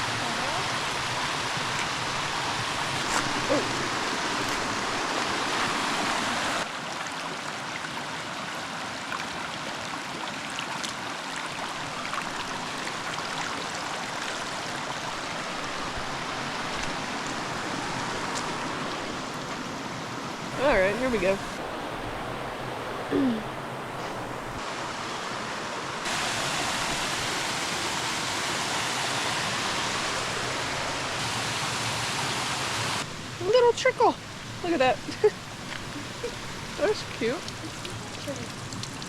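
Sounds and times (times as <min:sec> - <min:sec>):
flowing creek water: 0:00.0 - 0:39.0.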